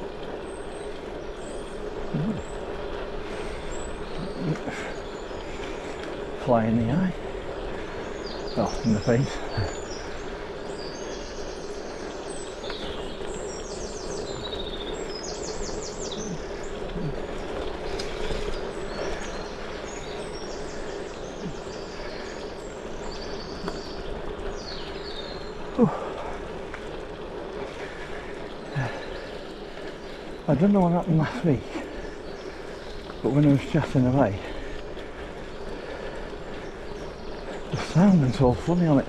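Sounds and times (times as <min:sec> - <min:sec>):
bike tyres rolling on gravel: 0:00.0 - 0:39.0
birds trilling: 0:00.0 - 0:39.0.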